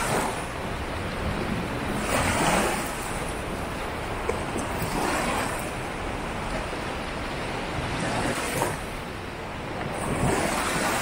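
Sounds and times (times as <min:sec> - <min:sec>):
sea surf washing onto beach: 0:00.0 - 0:11.0.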